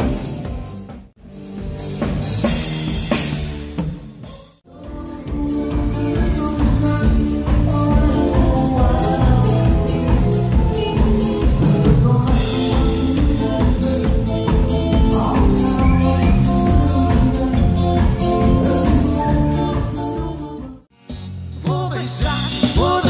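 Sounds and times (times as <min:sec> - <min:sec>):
drums playing steady beat: 0:00.0 - 0:23.0
live band music: 0:00.0 - 0:23.0.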